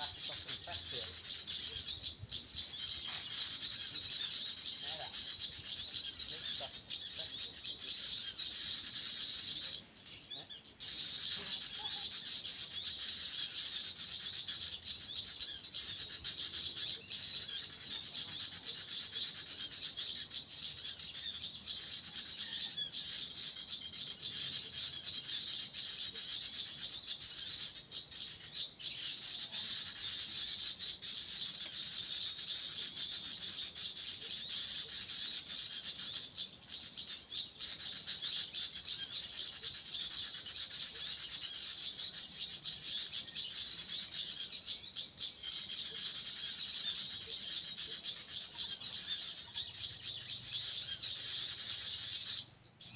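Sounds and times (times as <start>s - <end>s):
recorded birds chirping: 0.0s - 52.9s
wild birds calling: 0.0s - 52.9s.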